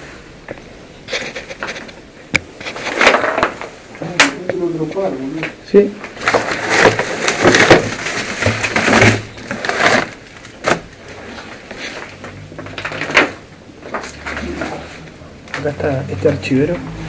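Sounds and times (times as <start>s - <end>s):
papers rustling: 0.0s - 15.9s.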